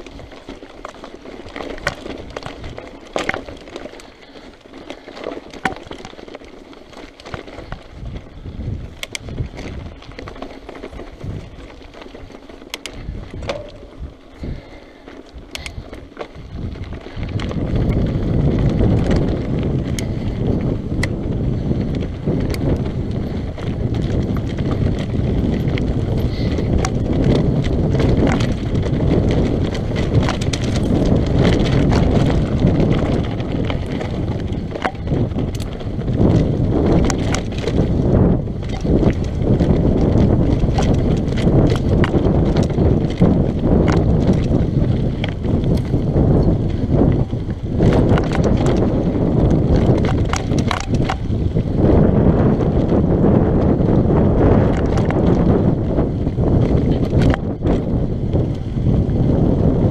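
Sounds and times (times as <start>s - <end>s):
bike clicking and rattling: 0.0s - 59.9s
bike tyres crunching over gravel: 0.0s - 59.9s.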